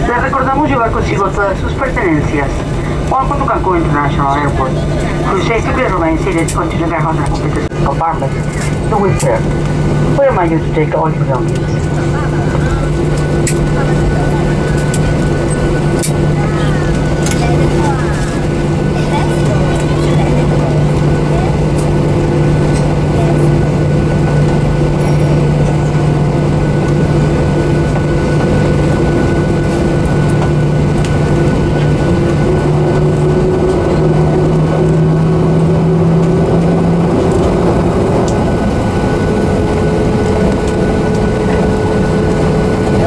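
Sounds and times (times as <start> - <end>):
idling jet engines rumble: 0.0 - 43.0
low hum: 0.0 - 43.0.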